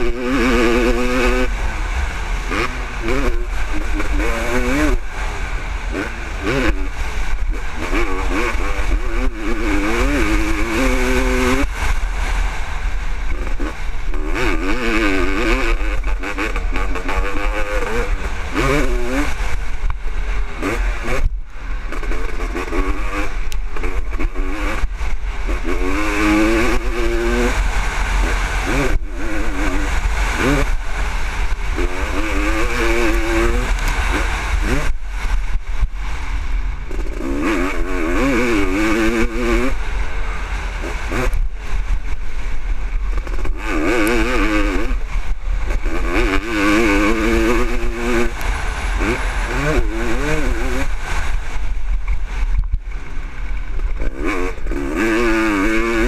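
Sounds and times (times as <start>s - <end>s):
motocross bike engine revving: 0.0s - 56.0s
wind rumble: 0.0s - 56.0s.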